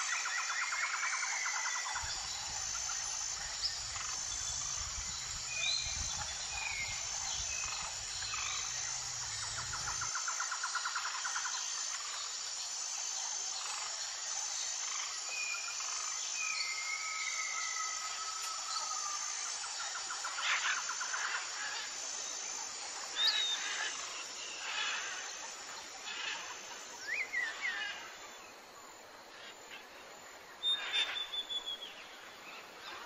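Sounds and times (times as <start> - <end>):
insects trilling in pulses: 0.0 - 33.0.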